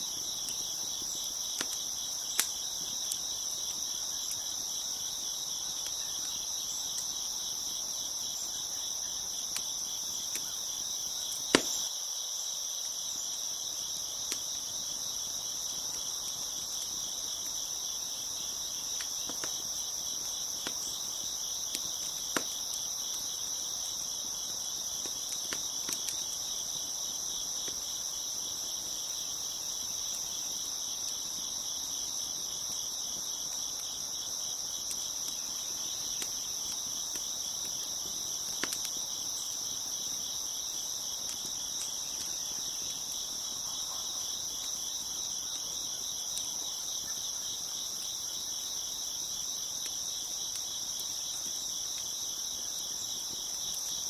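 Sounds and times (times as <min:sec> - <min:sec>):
wood fire crackling and popping: 0:00.0 - 0:11.9, 0:13.7 - 0:43.6, 0:44.3 - 0:54.0
crickets chirping: 0:00.0 - 0:54.0.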